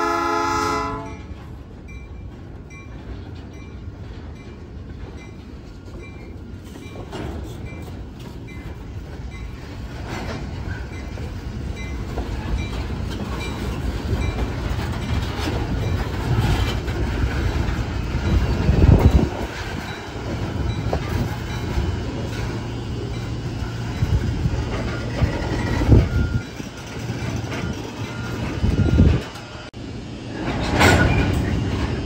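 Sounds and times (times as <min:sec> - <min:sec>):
heavy train clunks: 0:00.0 - 0:32.0.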